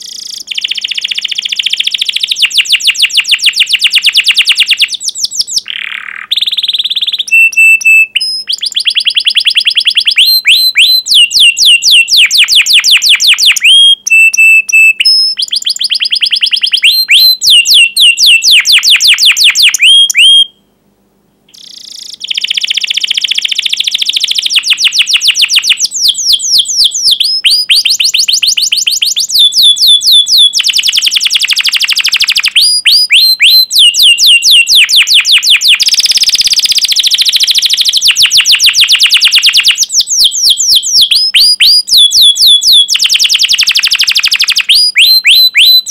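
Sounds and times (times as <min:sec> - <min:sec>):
canary singing: 0:00.0 - 0:20.7, 0:21.5 - 0:45.9.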